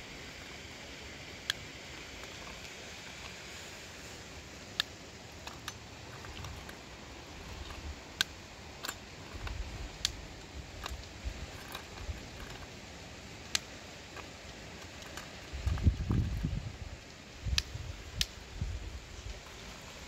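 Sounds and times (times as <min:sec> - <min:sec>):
running water hiss: 0:00.0 - 0:20.0.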